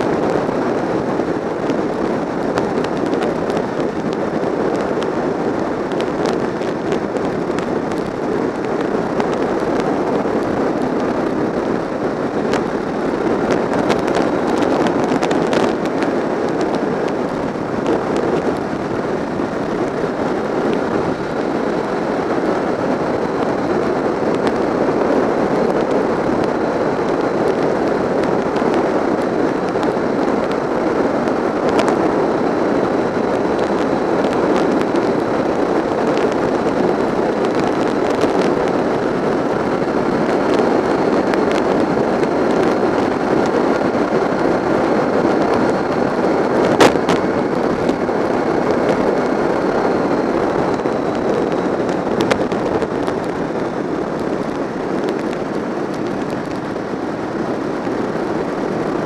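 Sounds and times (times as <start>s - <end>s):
motorcycle engine and tyre noise: 0.0s - 59.0s
sharp crackles: 0.0s - 59.0s
wind buffeting microphone: 0.0s - 59.0s.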